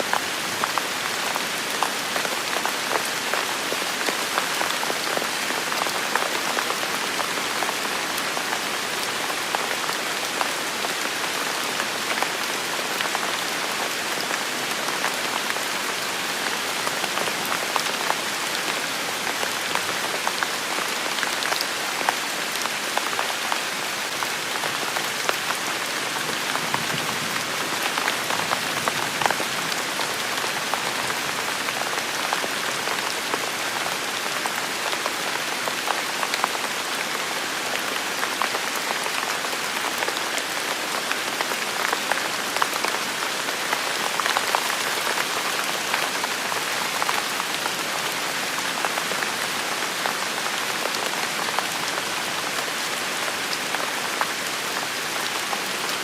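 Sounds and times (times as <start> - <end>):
rain pattering on hard surfaces: 0.0 - 56.0.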